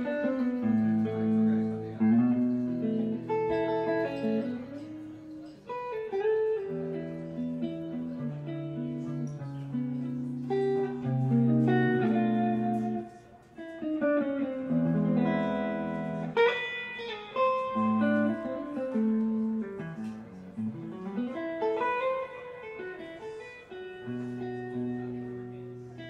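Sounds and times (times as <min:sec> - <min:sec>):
electric guitar picking: 0:00.0 - 0:26.0.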